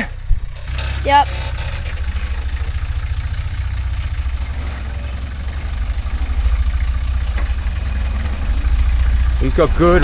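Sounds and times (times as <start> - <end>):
truck engine low rumble: 0.0 - 10.0.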